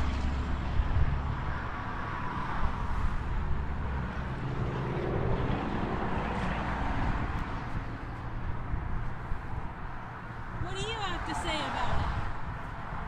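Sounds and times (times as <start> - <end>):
highway traffic noise: 0.0 - 13.0
wind buffeting microphone: 0.0 - 13.0.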